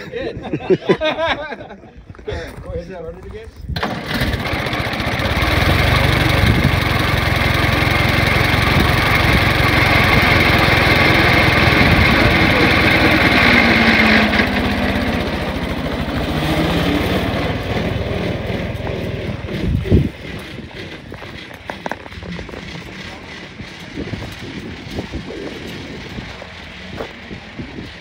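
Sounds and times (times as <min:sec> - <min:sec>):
car engine running: 0:03.8 - 0:28.0.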